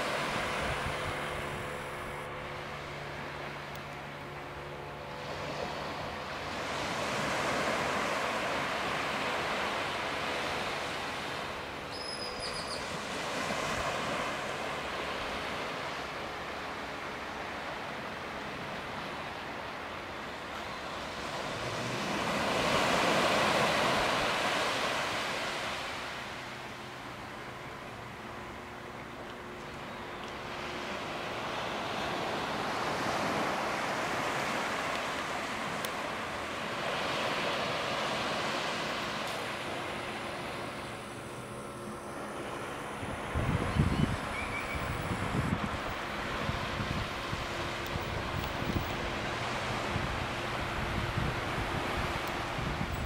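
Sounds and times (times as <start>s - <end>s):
distant speedboat engine drone: 0.0s - 53.0s
small waves washing on beach: 0.0s - 53.0s.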